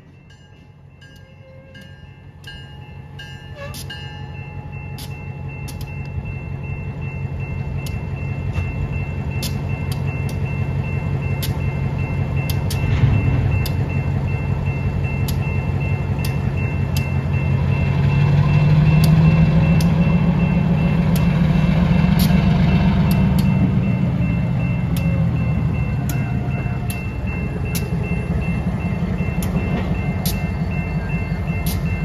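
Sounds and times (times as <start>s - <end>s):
locomotive engine humming: 0.0s - 32.0s.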